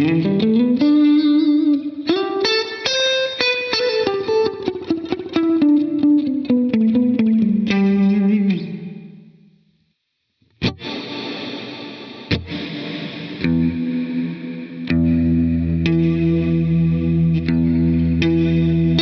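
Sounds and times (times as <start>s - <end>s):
electric guitar picked notes: 0.0s - 9.4s, 10.6s - 19.0s
electric guitar strummed chords: 0.0s - 9.4s, 10.6s - 19.0s.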